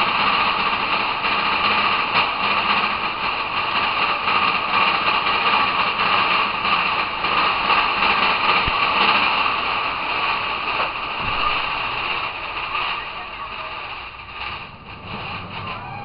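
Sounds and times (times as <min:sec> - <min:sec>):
roller coaster wheels rumbling on track: 0:00.0 - 0:16.0.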